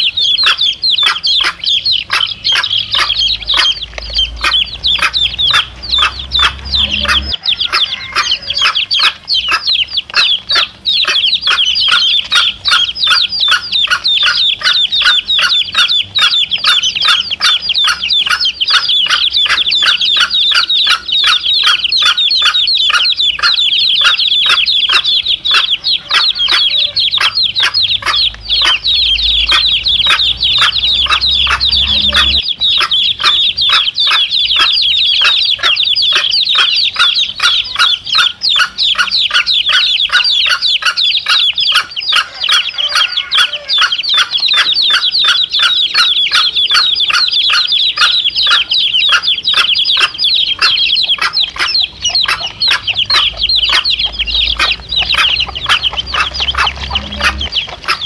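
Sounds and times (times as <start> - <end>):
chicks peeping: 0.0 - 58.0
hen clucking: 0.0 - 58.0.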